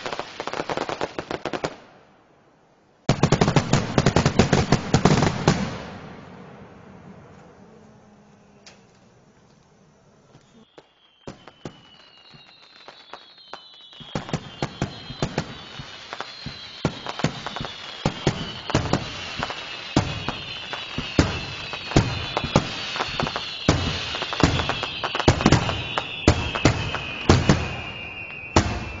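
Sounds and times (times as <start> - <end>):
fireworks bangs and crackles: 0.0 - 2.1, 3.1 - 7.6, 10.3 - 29.0.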